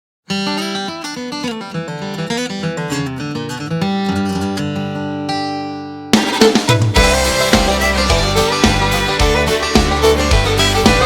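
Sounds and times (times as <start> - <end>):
acoustic guitar picking: 0.3 - 11.0.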